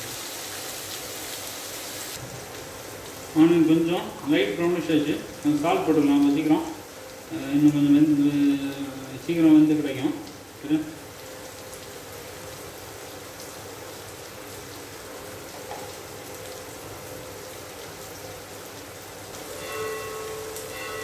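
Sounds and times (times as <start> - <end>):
onions sizzling in oil: 0.0 - 9.3, 9.9 - 20.9.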